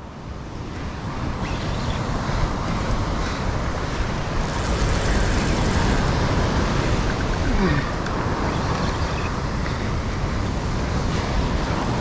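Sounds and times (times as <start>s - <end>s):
wind rumble on microphone: 0.0s - 12.0s
breaking surf: 2.3s - 12.0s.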